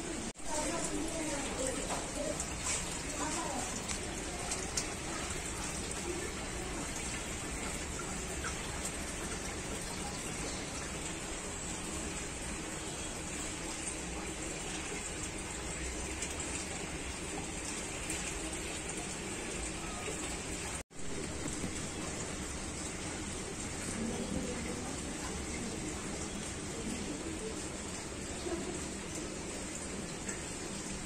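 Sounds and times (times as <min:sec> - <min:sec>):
aquarium aeration bubbling: 0:00.0 - 0:31.0.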